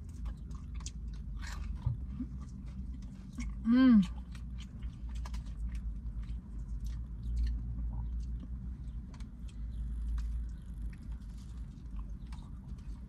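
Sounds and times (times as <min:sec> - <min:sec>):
person chewing food: 0:00.0 - 0:13.0
steady low rumble: 0:00.0 - 0:13.0.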